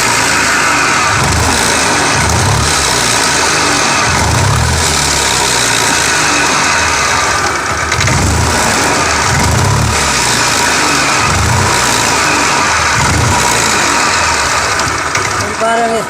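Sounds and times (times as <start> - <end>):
gearbox and bearing growl: 0.0 - 16.0
scooter engine rumbling: 0.0 - 16.0.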